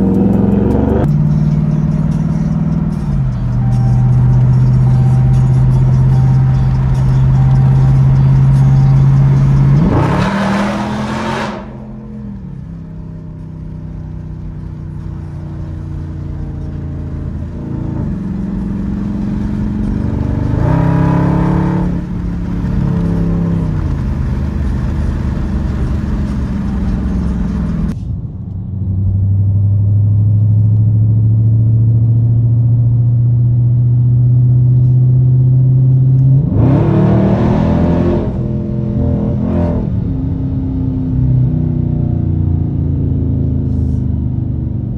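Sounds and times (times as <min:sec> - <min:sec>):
car engine exhaust at speed: 0:00.0 - 0:44.9.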